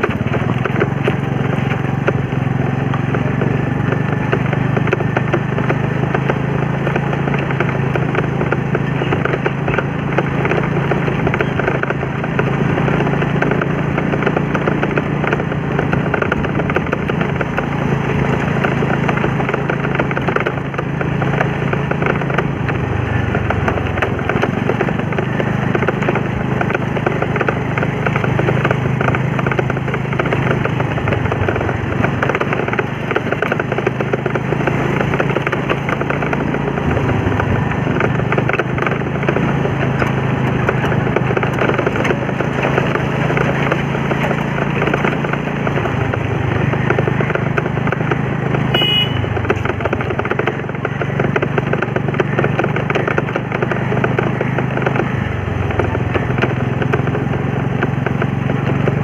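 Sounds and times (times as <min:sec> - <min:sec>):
motorbike engine running: 0:00.0 - 0:59.0
road and wind noise: 0:00.0 - 0:59.0.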